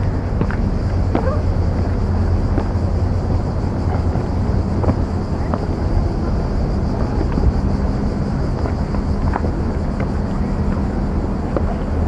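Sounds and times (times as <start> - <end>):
faint hum: 0.0 - 12.0
low outdoor rumble: 0.0 - 12.0.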